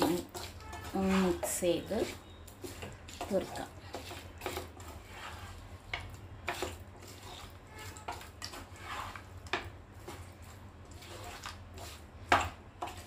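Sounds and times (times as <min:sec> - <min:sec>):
spatula scraping frying pan: 0:00.0 - 0:13.0.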